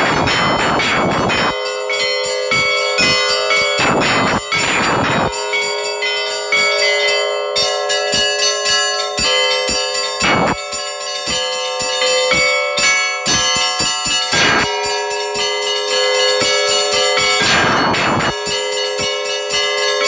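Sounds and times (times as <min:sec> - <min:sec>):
heavy bell strikes: 0:00.0 - 0:20.0
large bells ringing: 0:00.0 - 0:20.0
small church bells pealing: 0:00.0 - 0:20.0.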